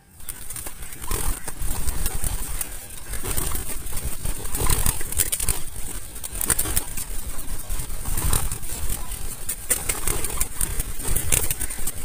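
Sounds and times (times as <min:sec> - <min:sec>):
doves flapping wings: 0:00.0 - 0:12.0.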